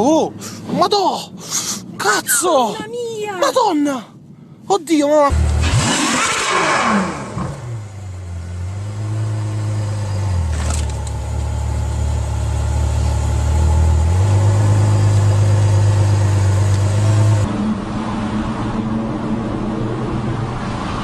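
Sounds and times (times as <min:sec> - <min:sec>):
car engine droning: 0:04.2 - 0:21.0.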